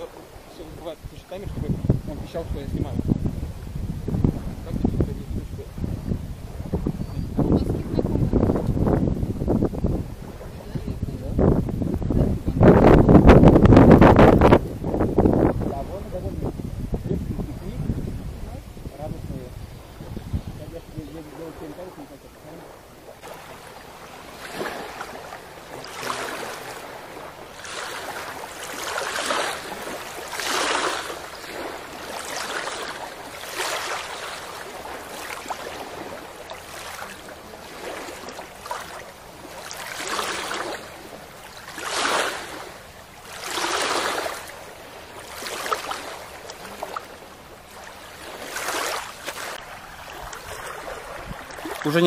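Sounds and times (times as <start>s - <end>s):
waves lapping onto shore: 0.0s - 52.0s.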